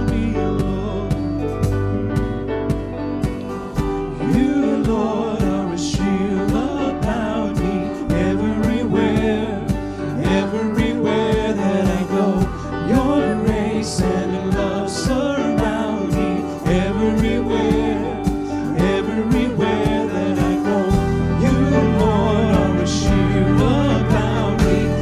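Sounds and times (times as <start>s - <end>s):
woman and man singing: 0.0s - 2.4s, 4.1s - 25.0s
band playing slow gospel song: 0.0s - 25.0s.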